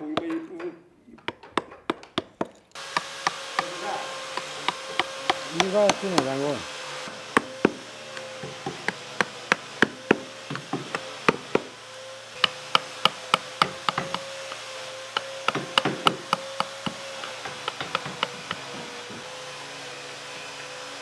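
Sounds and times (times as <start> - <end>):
mallet tapping chisel into wood: 0.1 - 0.5, 1.2 - 11.8, 12.4 - 19.3.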